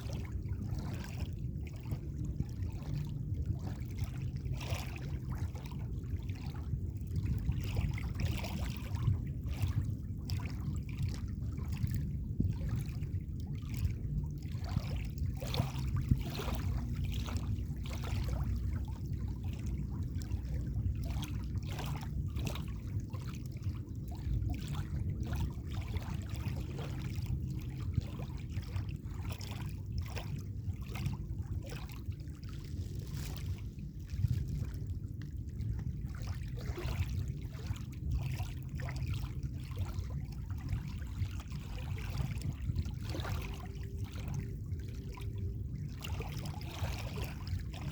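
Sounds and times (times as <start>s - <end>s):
low sea rumble: 0.0s - 47.9s
small waves lapping and splashing: 0.0s - 47.9s.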